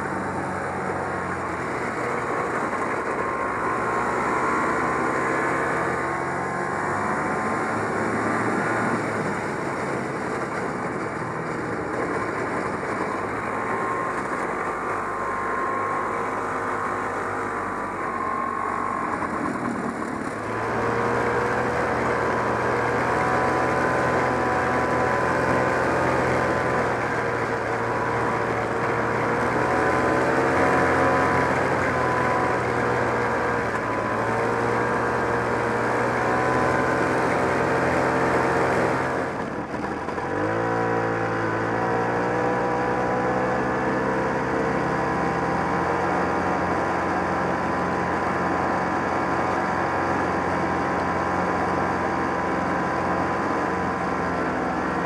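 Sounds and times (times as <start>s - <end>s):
snowmobile two-stroke engine running: 0.0s - 55.0s.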